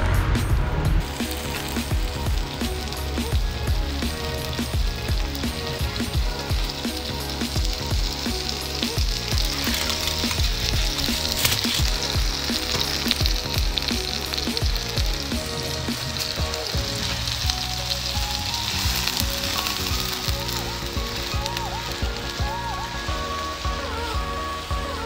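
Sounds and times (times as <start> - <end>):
background music: 0.0 - 25.0
chicken sizzling on hot plate: 1.0 - 25.0.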